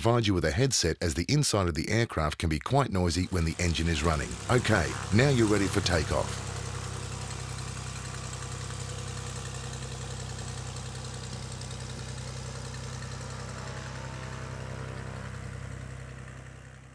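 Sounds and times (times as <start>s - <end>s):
light aircraft propeller engine: 3.1s - 16.9s.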